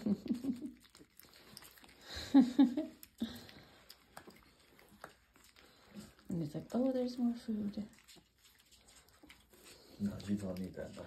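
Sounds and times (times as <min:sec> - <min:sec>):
puppies chewing and lapping: 0:00.0 - 0:11.0.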